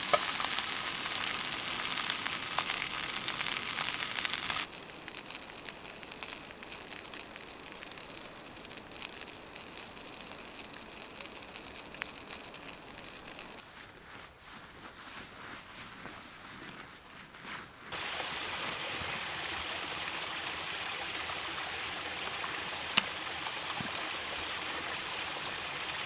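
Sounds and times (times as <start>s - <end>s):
sausages sizzling in frying pan: 0.0s - 13.6s, 17.9s - 26.0s
steady hiss: 0.0s - 13.6s, 17.9s - 26.0s.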